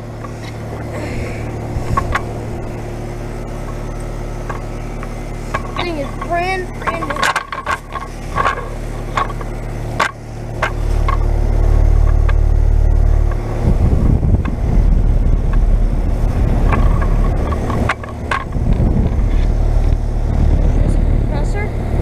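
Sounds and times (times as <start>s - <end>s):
fan air blowing on microphone: 0.0s - 22.0s
heat pump humming: 0.0s - 22.0s.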